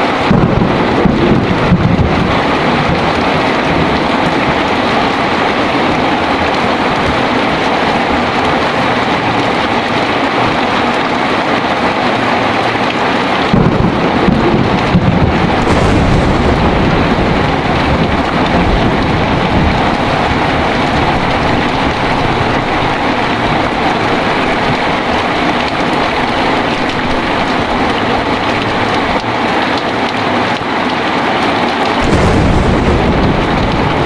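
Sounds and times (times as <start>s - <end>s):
thunder rumble and crack: 0.0s - 30.5s, 32.0s - 34.0s
heavy rain pouring: 0.0s - 34.0s.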